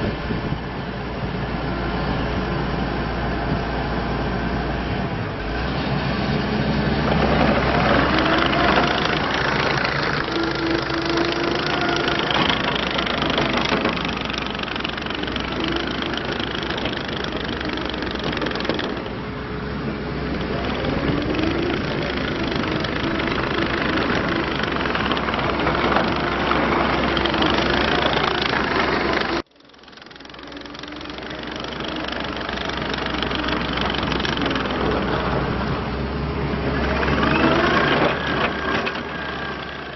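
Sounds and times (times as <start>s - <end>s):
diesel engine with wavering whine: 0.0s - 39.9s.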